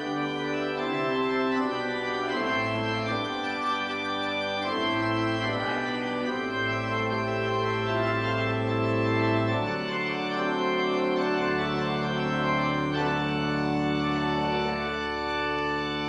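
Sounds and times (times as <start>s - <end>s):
church organ chords: 0.0s - 16.0s.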